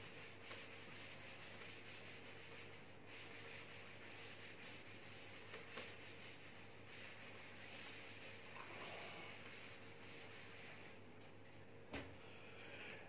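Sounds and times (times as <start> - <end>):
duster rubbing chalkboard: 0.0 - 11.0
low hum and hiss: 0.0 - 13.0.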